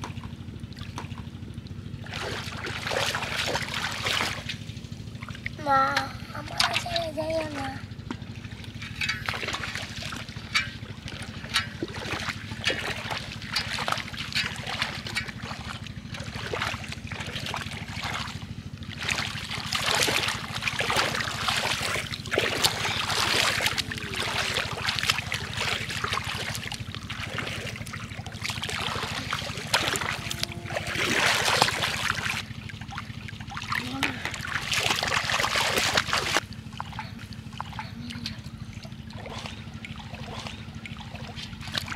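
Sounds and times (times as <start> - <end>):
steady low hum: 0.0 - 41.9
water splashing and sloshing: 0.0 - 41.9.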